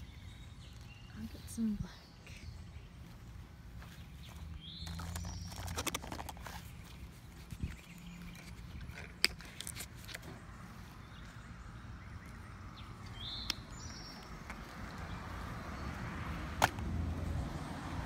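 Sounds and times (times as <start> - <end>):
bird chirp: 0.0 - 16.1.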